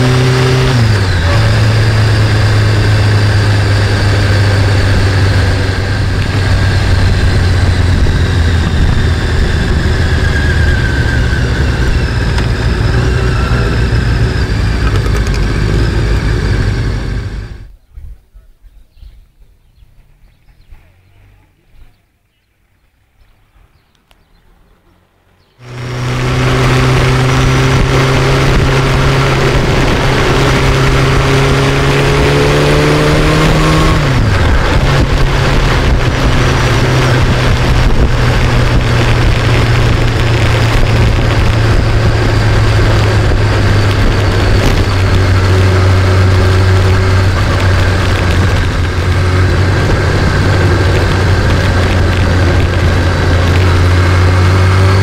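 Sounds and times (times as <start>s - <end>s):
motorcycle engine running: 0.0s - 17.7s, 25.6s - 55.0s
wind rush: 0.0s - 18.2s, 25.6s - 55.0s.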